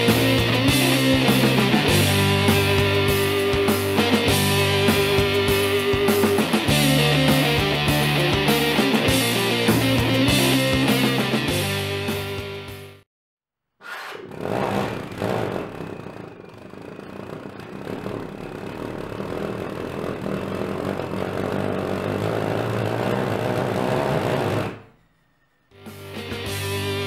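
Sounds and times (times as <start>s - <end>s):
pulsejet engine pulsing drone: 0.0s - 11.3s, 14.4s - 27.0s.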